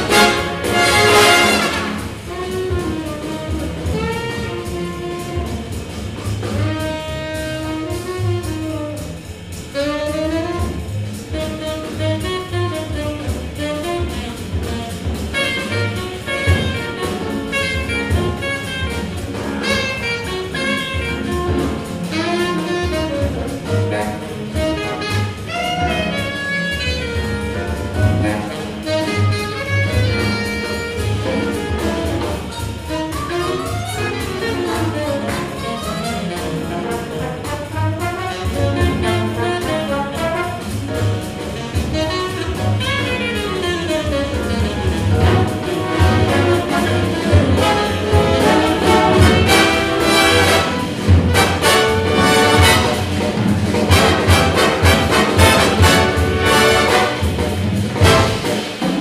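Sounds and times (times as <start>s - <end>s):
double bass: 0.0s - 59.0s
drums: 0.0s - 59.0s
piano: 0.0s - 59.0s
saxophone jazz solo: 0.0s - 59.0s.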